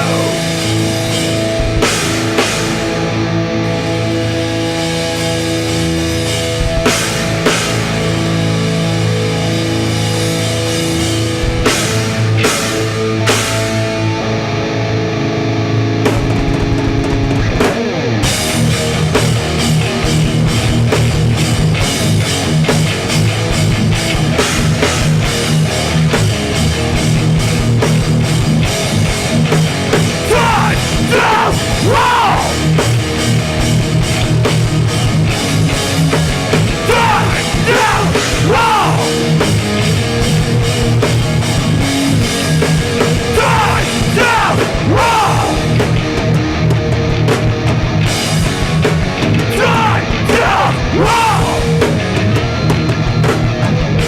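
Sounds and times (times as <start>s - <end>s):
drum kit: 0.0s - 14.2s, 16.0s - 54.0s
bass guitar: 0.0s - 54.0s
distorted electric guitars: 0.0s - 54.0s.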